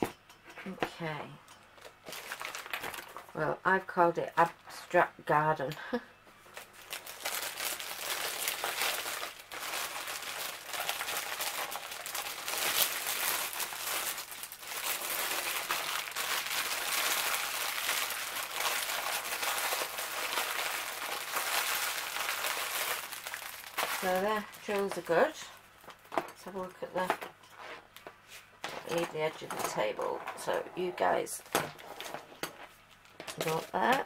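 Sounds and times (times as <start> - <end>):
plastic packaging crinkling: 1.8 - 3.4, 6.4 - 34.0.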